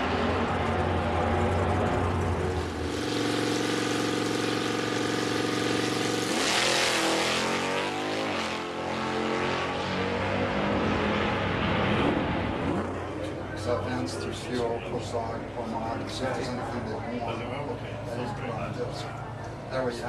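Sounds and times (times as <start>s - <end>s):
racing car engines: 0.0s - 20.0s.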